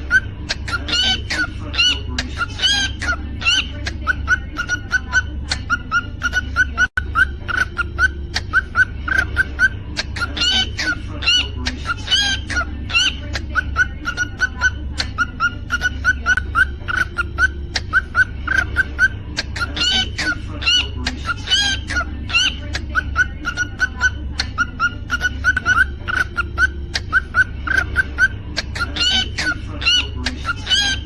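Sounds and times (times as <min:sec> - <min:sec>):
cockatiel chirping: 0:00.0 - 0:31.0.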